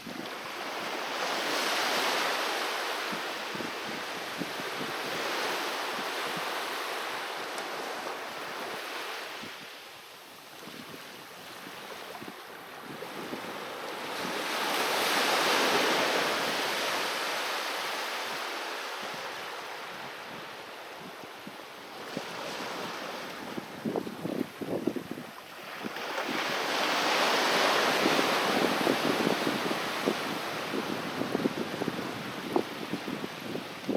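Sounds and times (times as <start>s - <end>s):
sea waves washing ashore: 0.0s - 33.9s.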